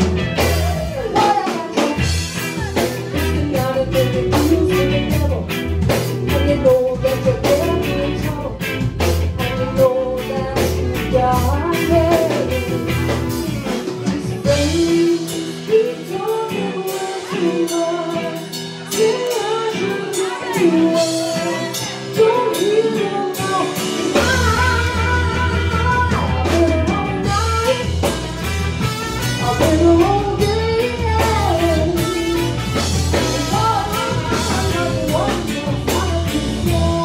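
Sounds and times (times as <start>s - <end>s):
live rock band playing: 0.0s - 37.0s
woman singing: 0.2s - 37.0s.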